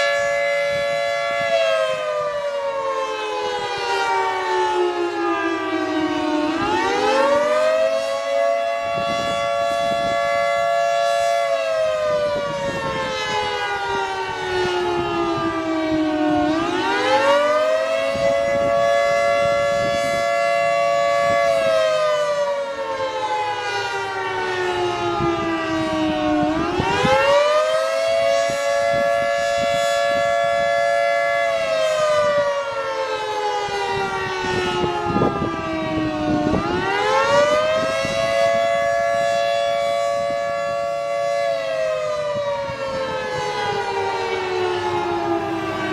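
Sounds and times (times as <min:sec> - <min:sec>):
rotating siren wailing: 0:00.0 - 0:45.9.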